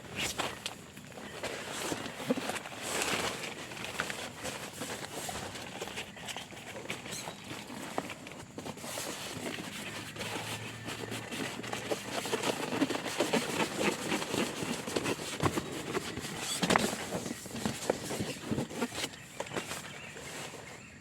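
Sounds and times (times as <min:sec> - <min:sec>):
rustling: 0:00.0 - 0:21.0.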